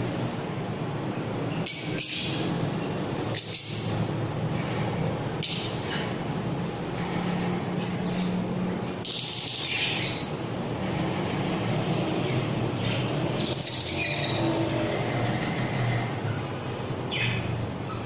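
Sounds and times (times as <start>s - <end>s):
steady low hum: 0.0s - 18.0s
parrots calling: 1.4s - 8.4s, 9.0s - 18.0s.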